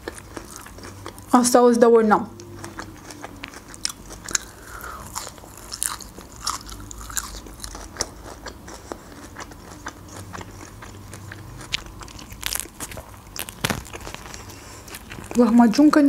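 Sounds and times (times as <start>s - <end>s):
chewing crisp flatbread: 0.0s - 1.5s, 2.3s - 16.0s.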